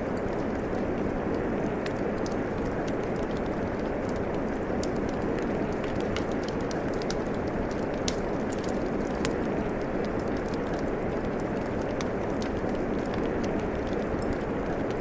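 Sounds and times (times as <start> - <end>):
steady rain: 0.0 - 15.0
fireplace wood crackling: 0.1 - 15.0.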